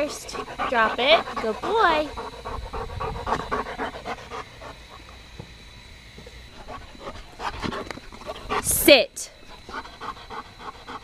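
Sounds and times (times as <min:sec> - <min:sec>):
dog panting fast: 0:00.0 - 0:05.2, 0:06.6 - 0:08.9, 0:09.5 - 0:11.0.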